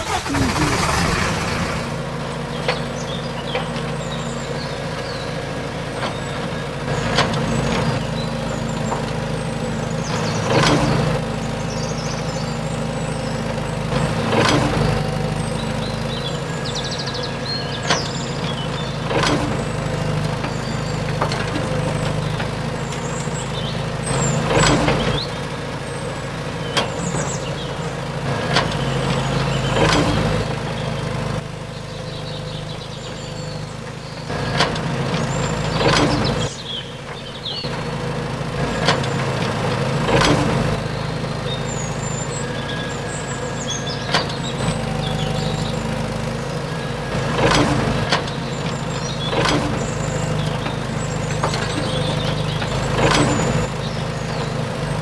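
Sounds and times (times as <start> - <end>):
birds chirping: 0.0 - 55.0
knocks and clatter of soil: 2.0 - 55.0.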